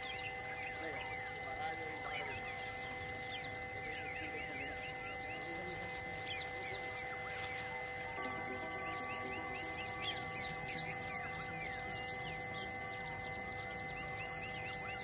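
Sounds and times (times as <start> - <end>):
insects trilling in pulses: 0.0 - 15.0
steady hum: 0.0 - 15.0.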